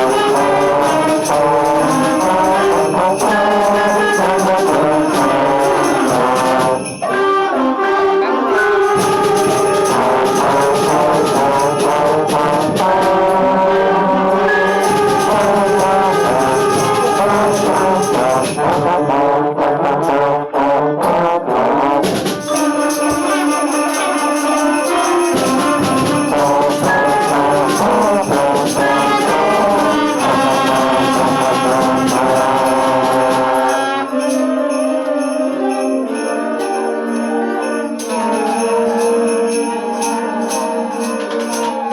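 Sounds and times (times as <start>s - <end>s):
tambourine: 0.0s - 7.3s, 8.6s - 13.7s, 14.4s - 19.2s, 22.0s - 41.9s
sleigh bells: 0.0s - 7.4s, 8.6s - 13.6s, 14.4s - 19.2s, 22.1s - 41.9s
orchestral backing track: 0.0s - 20.3s, 21.0s - 41.9s
trombone melody: 0.0s - 41.9s.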